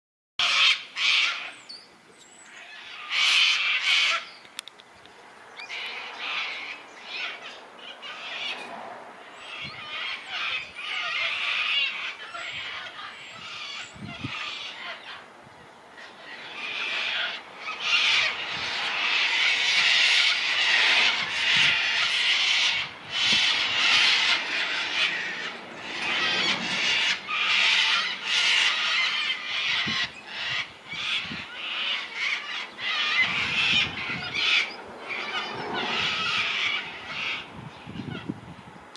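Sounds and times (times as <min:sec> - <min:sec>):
cockatoos screeching: 0:00.4 - 0:01.6, 0:02.5 - 0:04.4, 0:05.6 - 0:38.3.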